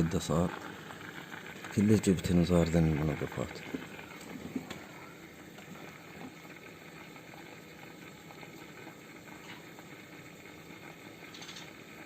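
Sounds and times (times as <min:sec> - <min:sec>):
aquarium water bubbling: 0:00.0 - 0:12.0.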